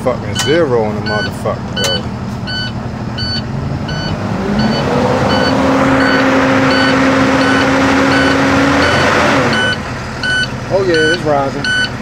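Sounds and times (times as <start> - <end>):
truck engine revving: 0.0 - 12.0
warning beeps: 0.3 - 12.0.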